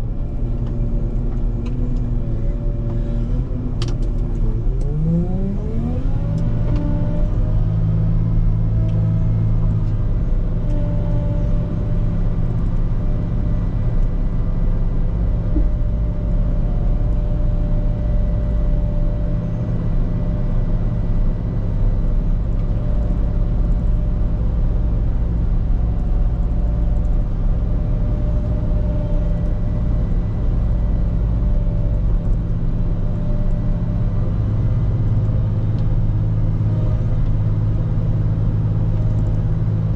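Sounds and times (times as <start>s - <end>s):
diesel engine droning under load: 0.0s - 39.9s
faint engine whine: 0.0s - 39.9s.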